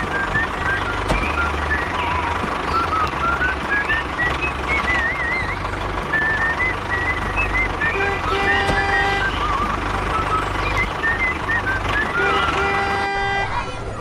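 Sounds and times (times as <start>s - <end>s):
low engine-like rumble: 0.0s - 14.0s
high chirping whistles: 0.1s - 12.5s.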